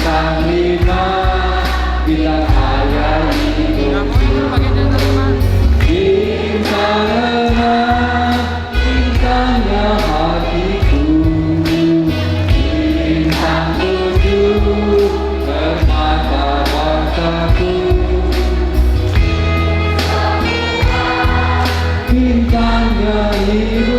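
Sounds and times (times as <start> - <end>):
choir singing: 0.0 - 5.2, 5.8 - 23.9
deep bass line: 0.0 - 23.9
steady beat: 0.0 - 23.9.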